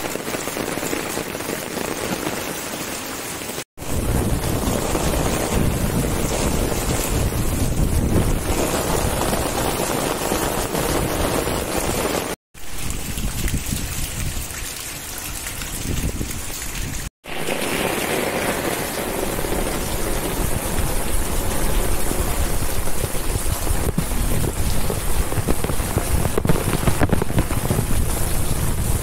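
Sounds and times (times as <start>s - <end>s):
heavy rain on paving: 0.0s - 29.0s
rainwater splashing onto ground: 0.0s - 29.0s.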